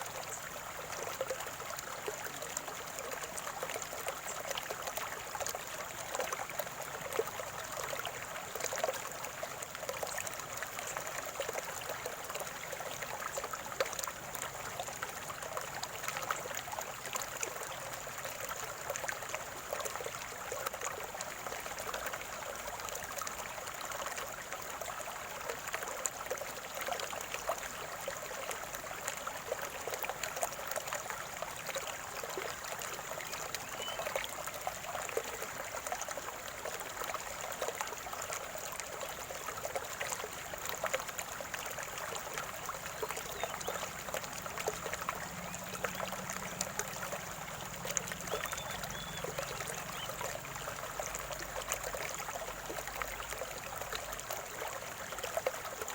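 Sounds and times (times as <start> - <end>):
small water splashes: 0.0 - 55.9
stream trickling and gurgling: 0.0 - 55.9.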